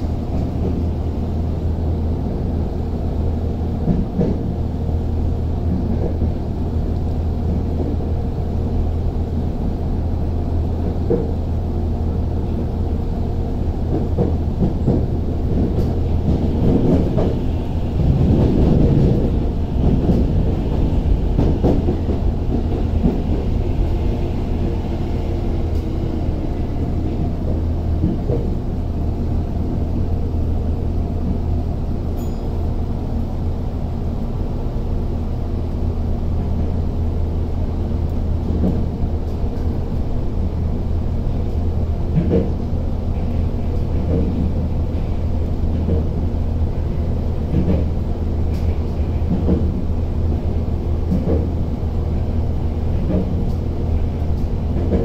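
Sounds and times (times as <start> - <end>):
train interior rumble and hum: 0.0 - 55.0.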